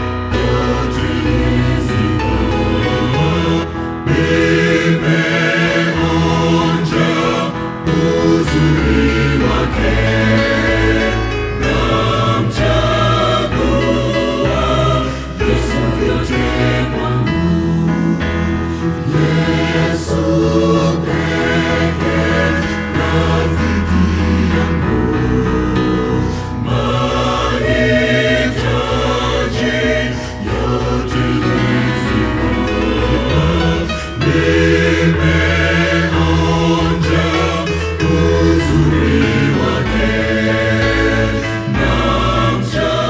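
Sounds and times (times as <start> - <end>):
keyboard accompaniment: 0.0 - 43.0
mixed choir singing: 0.0 - 43.0
steady bass: 0.0 - 43.0.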